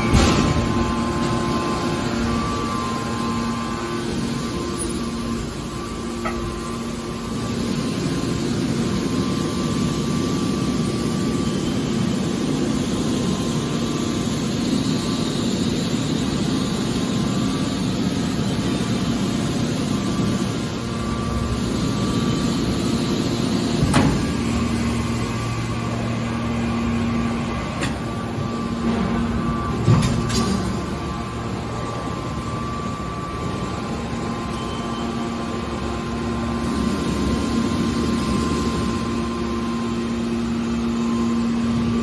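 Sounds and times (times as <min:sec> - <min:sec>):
hydraulic baler humming: 0:00.0 - 0:42.0.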